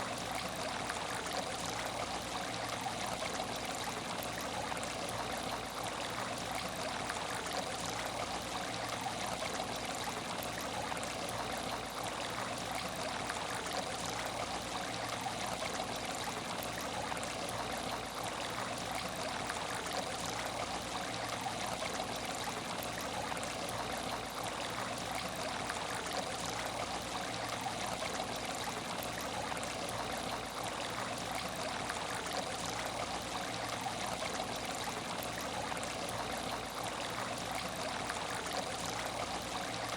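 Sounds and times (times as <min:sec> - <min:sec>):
aquarium water trickling: 0:00.0 - 0:39.9.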